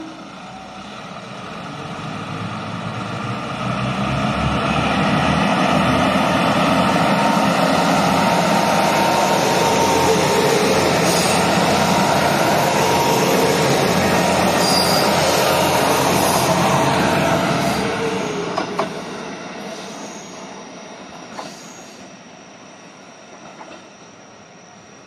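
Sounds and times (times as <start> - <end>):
train passing: 0.0 - 24.3.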